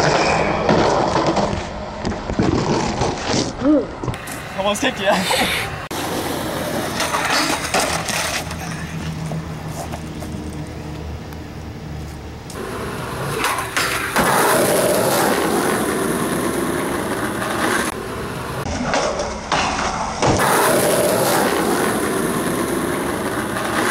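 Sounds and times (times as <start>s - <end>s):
skateboard wheels rolling on asphalt: 0.0s - 23.9s.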